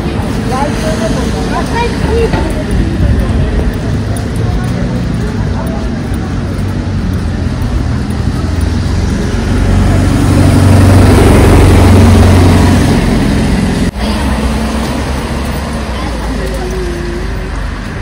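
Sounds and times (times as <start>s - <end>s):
vehicle passing on wet road: 0.0s - 18.0s.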